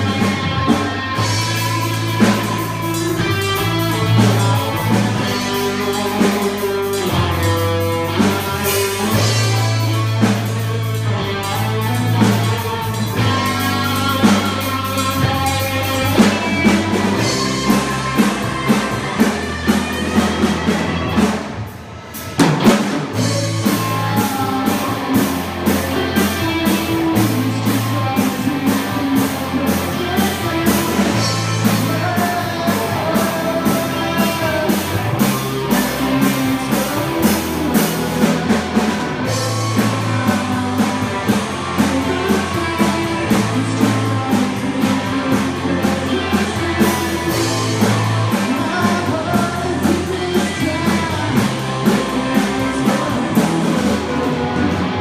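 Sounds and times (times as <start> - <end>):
man singing: 0.0 - 21.2, 23.0 - 55.0
bass guitar: 0.0 - 55.0
drum kit with cymbals: 0.0 - 55.0
electric guitars: 0.0 - 55.0.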